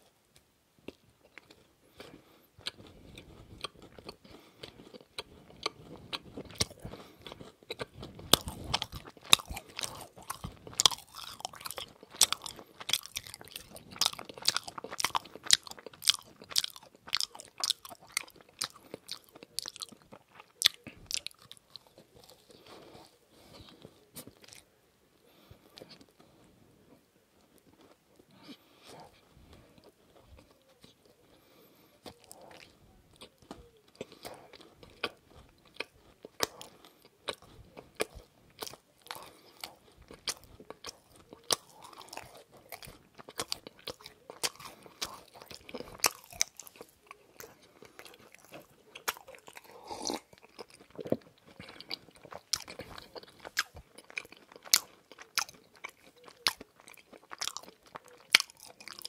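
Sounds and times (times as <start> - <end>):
person chewing crunchy food: 0.0 - 59.0
wet mouth sounds: 0.9 - 24.6, 30.1 - 59.0.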